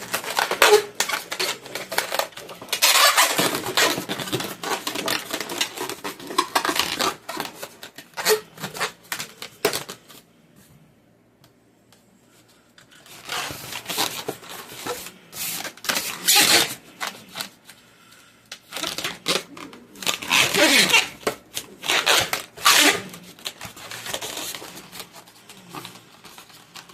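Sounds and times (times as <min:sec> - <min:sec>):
balloons squeaking and crackling: 0:00.0 - 0:10.2, 0:12.9 - 0:17.7, 0:18.6 - 0:26.9.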